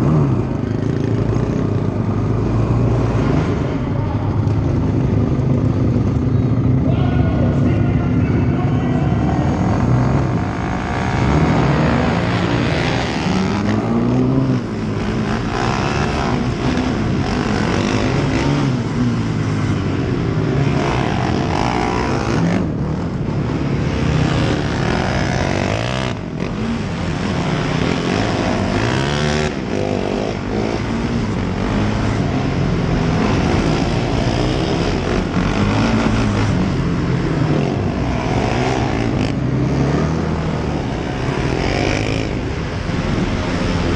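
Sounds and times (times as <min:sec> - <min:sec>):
racing engines revving: 0:00.0 - 0:43.9.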